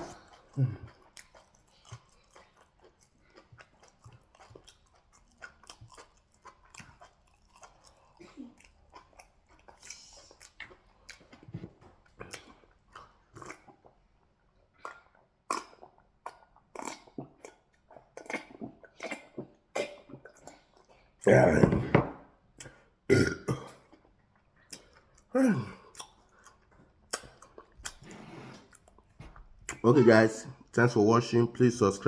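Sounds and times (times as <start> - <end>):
wet chewing and mouth clicks: 0.0 - 21.2, 22.5 - 23.0, 23.6 - 30.8.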